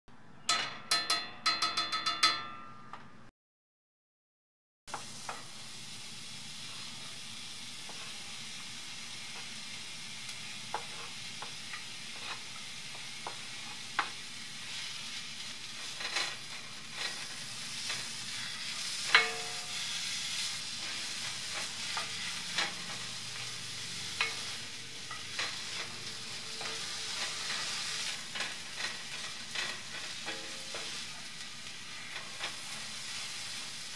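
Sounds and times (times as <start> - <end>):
onions sizzling in oil: 4.9 - 33.9.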